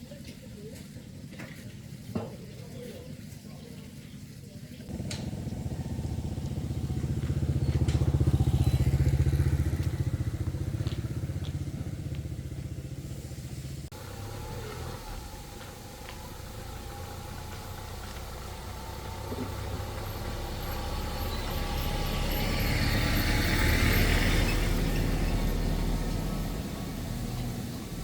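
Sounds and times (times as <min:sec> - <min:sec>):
small engine running: 0:04.9 - 0:28.0.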